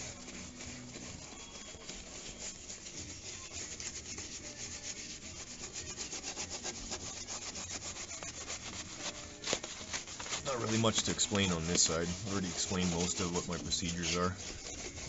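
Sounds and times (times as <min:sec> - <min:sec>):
brush scrubbing car underbody: 0:00.0 - 0:15.0.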